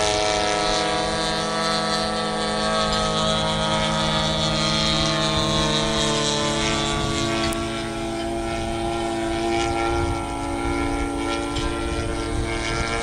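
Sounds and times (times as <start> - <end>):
model plane engine running: 0.0 - 13.0.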